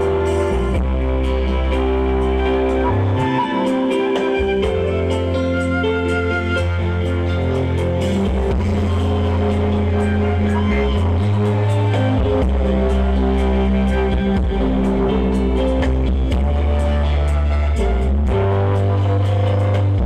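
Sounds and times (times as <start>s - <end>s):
heavy bass notes: 0.0s - 20.0s
light steady beat: 0.0s - 20.0s
music through sound system: 0.0s - 20.0s
plucked melody: 0.0s - 20.0s.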